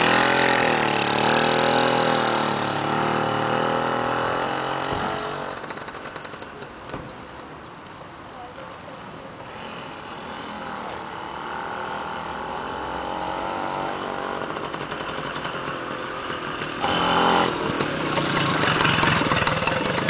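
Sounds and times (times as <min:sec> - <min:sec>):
moped engine passing: 0:00.0 - 0:06.9, 0:09.4 - 0:20.0.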